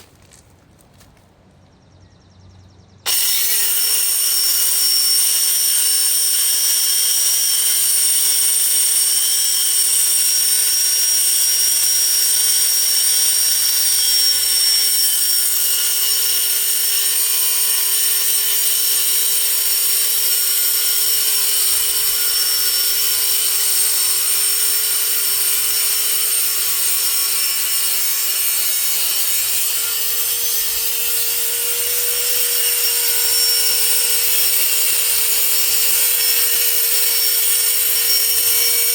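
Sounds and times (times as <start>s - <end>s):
angle grinder cutting metal: 3.1s - 38.9s.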